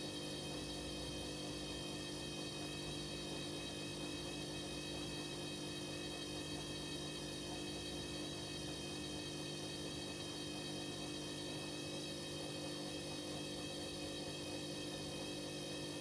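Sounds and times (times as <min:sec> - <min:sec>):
washing machine electrical hum: 0:00.0 - 0:16.0.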